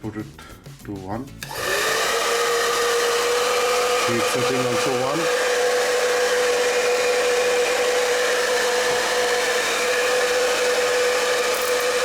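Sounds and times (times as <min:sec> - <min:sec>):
hair dryer running: 0:01.4 - 0:12.0.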